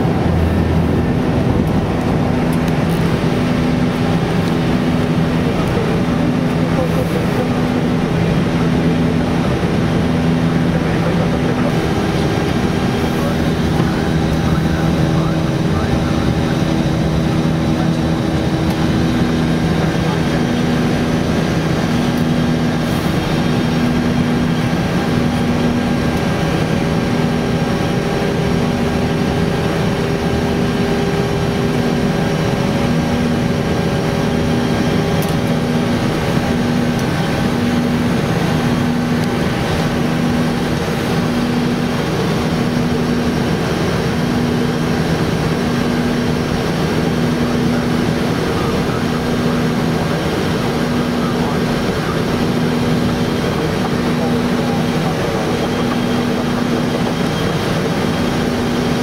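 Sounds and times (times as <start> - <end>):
cockpit airflow rush: 0.0 - 59.0
low hum: 0.0 - 59.0.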